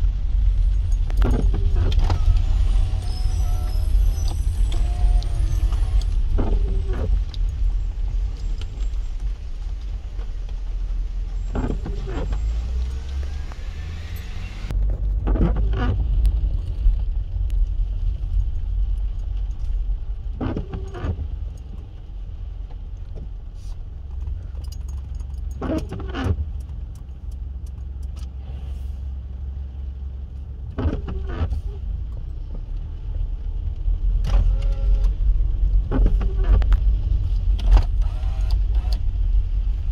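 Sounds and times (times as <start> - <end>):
car cabin rumble: 0.0 - 39.9
windscreen wipers squeaking: 0.2 - 17.5, 18.1 - 39.9.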